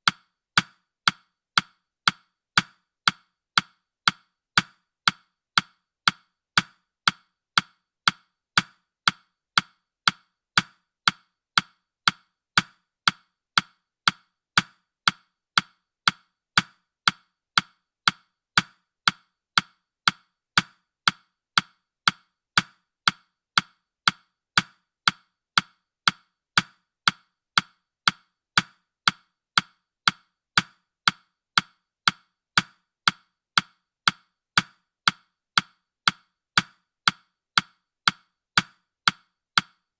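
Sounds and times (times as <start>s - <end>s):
timer ticking clicks: 0.0s - 39.9s.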